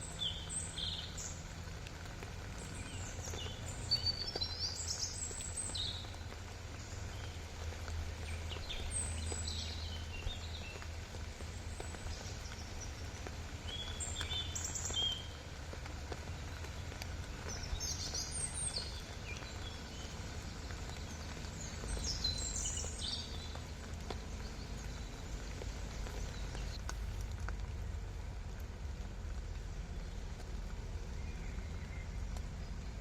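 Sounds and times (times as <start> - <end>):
small birds chirping: 0.0 - 27.6, 28.4 - 33.0.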